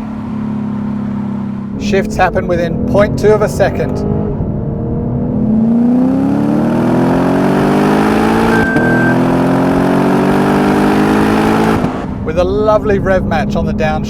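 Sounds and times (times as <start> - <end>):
car engine accelerating hard: 0.0 - 13.9.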